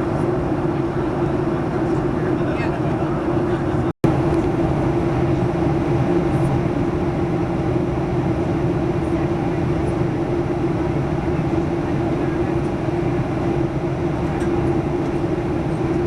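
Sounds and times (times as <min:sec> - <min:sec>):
jet cabin engine roar: 0:00.0 - 0:16.0.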